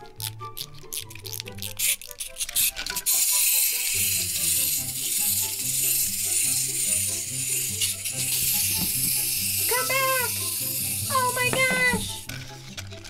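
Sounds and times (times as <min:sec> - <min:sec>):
high shaker rattle: 0:00.2 - 0:12.8.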